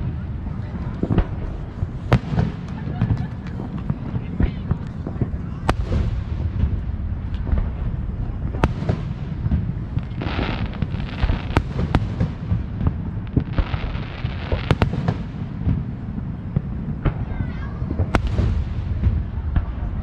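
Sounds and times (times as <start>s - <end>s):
fireworks banging and popping: 0.0s - 20.0s
fireworks crackling: 0.0s - 20.0s
steady low rumble: 0.0s - 20.0s.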